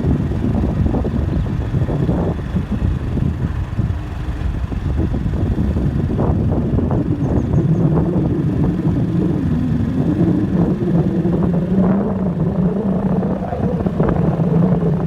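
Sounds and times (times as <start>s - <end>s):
steady low hum: 0.0s - 15.0s
strong storm wind gusting: 0.0s - 15.0s
wind buffeting microphone: 0.0s - 15.0s.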